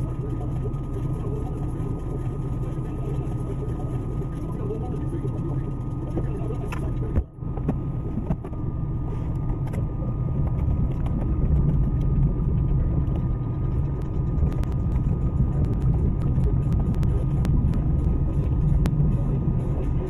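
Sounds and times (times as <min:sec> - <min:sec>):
car engine under load: 0:00.0 - 0:20.0.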